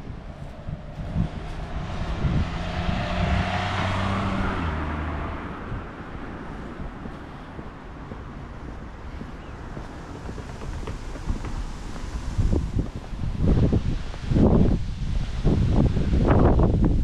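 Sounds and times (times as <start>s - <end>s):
vehicle driving past: 0.0s - 14.9s.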